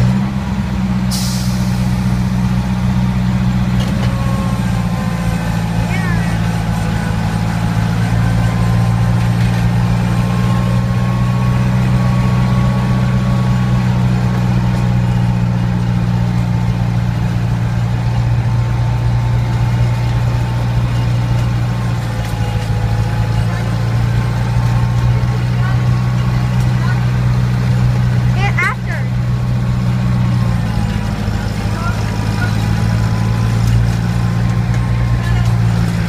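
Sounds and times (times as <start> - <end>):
miniature train engine droning: 0.0 - 36.0.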